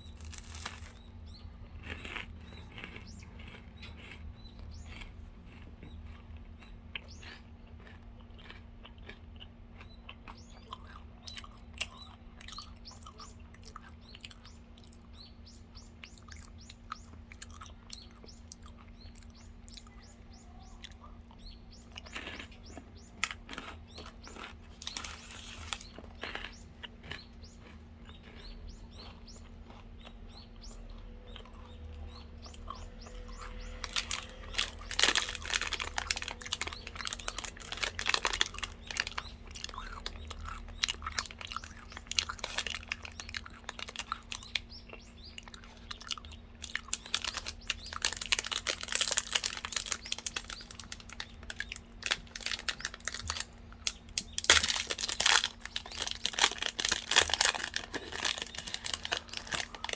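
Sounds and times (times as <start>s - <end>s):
chewing crunchy chocolate bar: 0.0s - 59.9s.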